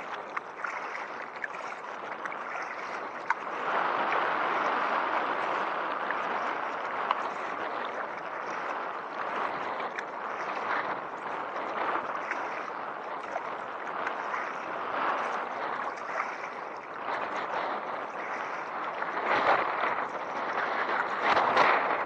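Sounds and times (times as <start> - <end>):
water splashing against kayak: 0.0 - 22.0.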